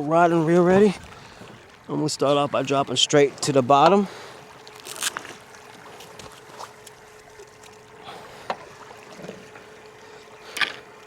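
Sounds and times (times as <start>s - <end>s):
faint steady hum: 0.0s - 11.0s
water lapping against a hull: 0.0s - 11.0s.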